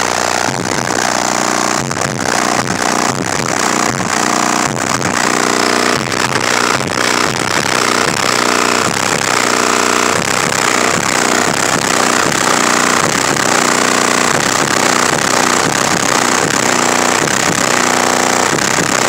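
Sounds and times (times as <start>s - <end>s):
loud distorted bass music: 0.0s - 19.0s.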